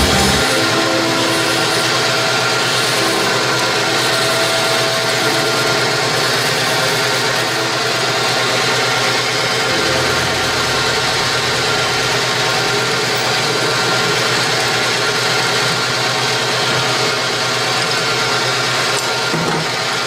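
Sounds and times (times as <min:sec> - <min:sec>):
whining tones: 0:00.0 - 0:16.1
lathe machine drone: 0:00.0 - 0:20.0.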